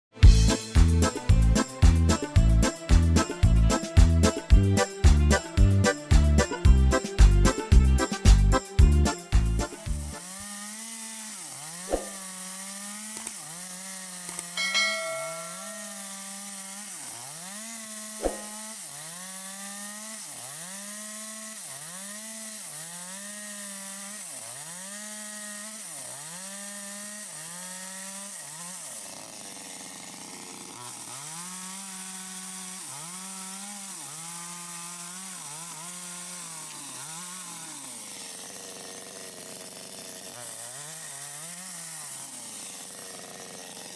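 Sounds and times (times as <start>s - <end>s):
chainsaw cutting wood: 0.2s - 43.9s.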